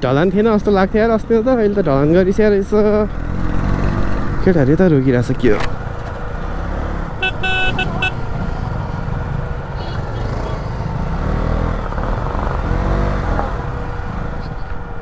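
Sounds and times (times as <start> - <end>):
motorcycle engine rumbling: 0.0 - 14.9
road noise: 0.0 - 15.0.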